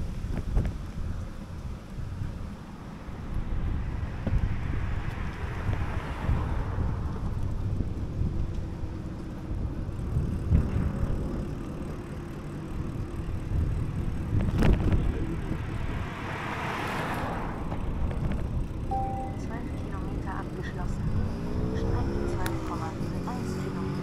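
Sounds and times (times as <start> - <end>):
wind rumbling on microphone: 0.0 - 24.0
car passing: 1.6 - 24.0.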